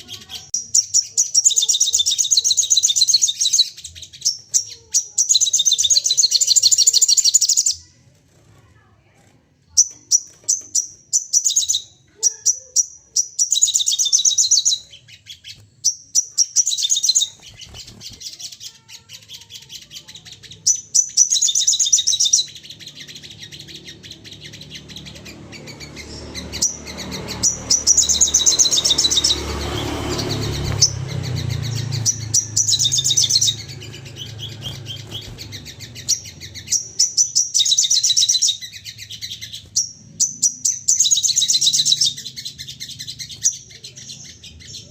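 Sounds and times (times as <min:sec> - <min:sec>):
songbird chattering: 0:00.0 - 0:08.0, 0:09.7 - 0:44.9.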